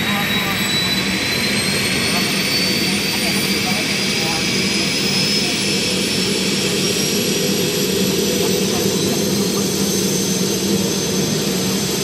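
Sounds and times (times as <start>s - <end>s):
engine and rotor rumble: 0.0s - 12.0s
helicopter engine whine: 0.0s - 12.0s.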